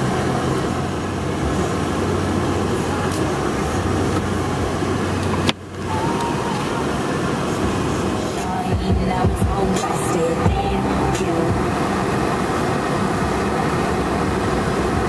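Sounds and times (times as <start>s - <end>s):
car interior driving noise: 0.0s - 15.0s.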